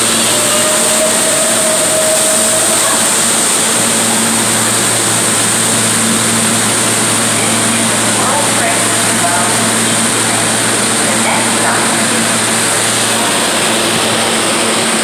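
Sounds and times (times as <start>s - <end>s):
subway car ventilation hum: 0.0s - 15.0s.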